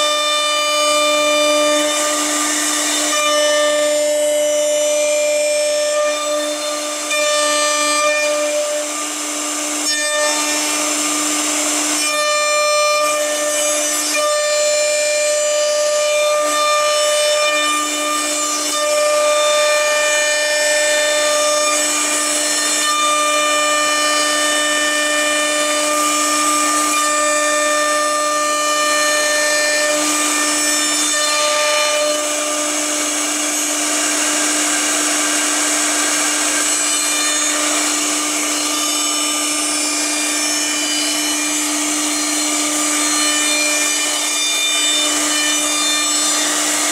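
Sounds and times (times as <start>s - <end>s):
cutter hissing through material: 0.0s - 46.9s
router spindle whine: 0.0s - 46.9s.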